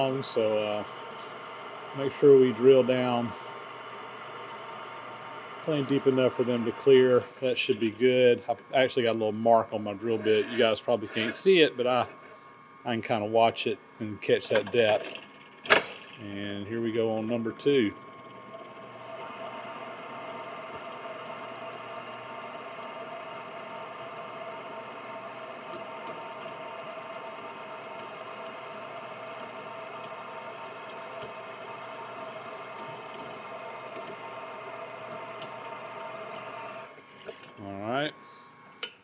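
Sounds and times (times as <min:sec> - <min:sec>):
drill press running: 0:00.0 - 0:08.4, 0:14.5 - 0:37.6.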